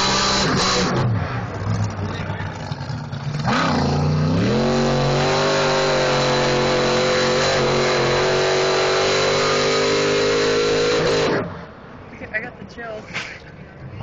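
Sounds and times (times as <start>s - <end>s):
racing boat engine: 0.0s - 11.3s.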